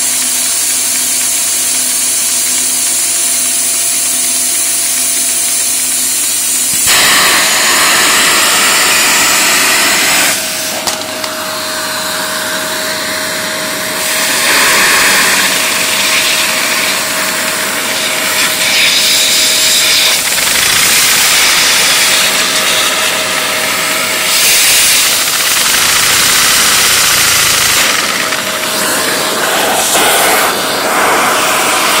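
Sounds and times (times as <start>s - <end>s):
rush and hiss of air: 1.4s - 32.0s
thin steady whine: 5.5s - 32.0s.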